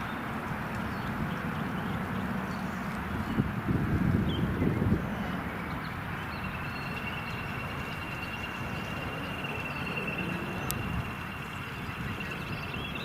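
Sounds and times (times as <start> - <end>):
jet engines roaring overhead: 0.0 - 13.0
thin high engine whine: 0.0 - 13.0
wind buffeting microphone: 0.0 - 13.0.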